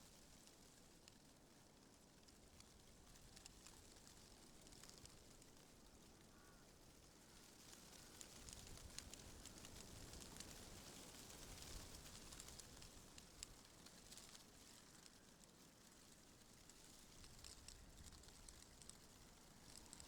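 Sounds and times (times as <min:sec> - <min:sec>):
leaves rustling in wind: 0:00.0 - 0:20.0.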